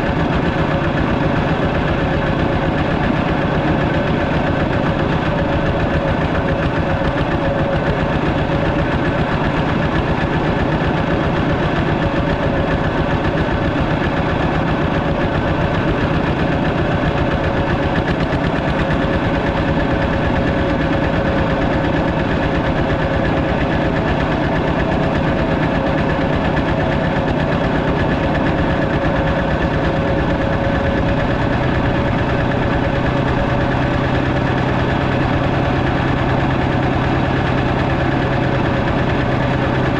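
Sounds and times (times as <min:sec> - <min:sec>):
walking tractor engine running: 0:00.0 - 0:39.9.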